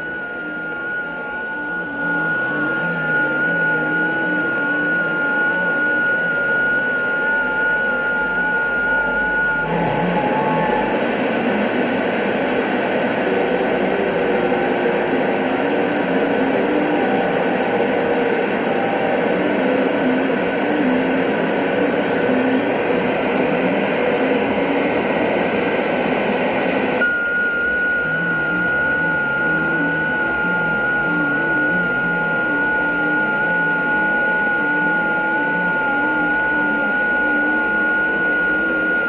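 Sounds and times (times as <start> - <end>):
faint wavering tones: 0.0 - 39.0
steady high whistle: 0.0 - 39.0.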